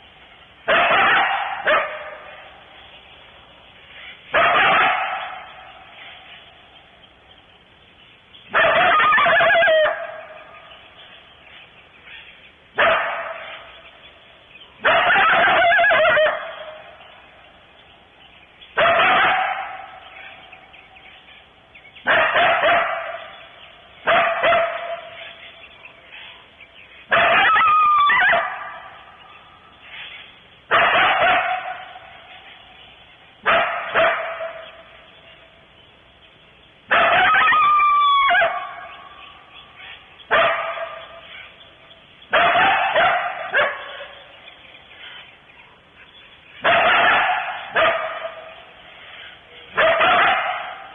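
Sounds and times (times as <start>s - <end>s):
coyote barking: 0.6s - 2.7s, 3.9s - 6.9s, 8.4s - 17.4s, 18.7s - 35.6s, 36.8s - 50.9s.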